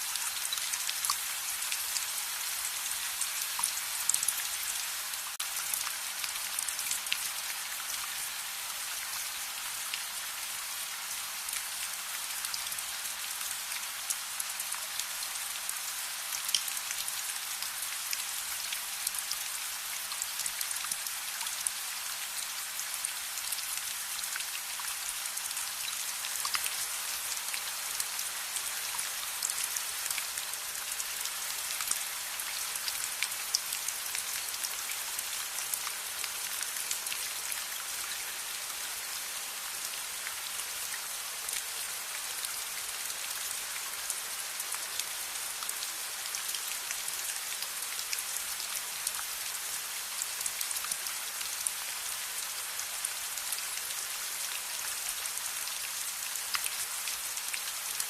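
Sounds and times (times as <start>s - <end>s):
raindrops ticking on a surface: 0.0s - 39.1s, 39.9s - 58.0s
steady rain hiss: 0.0s - 58.0s.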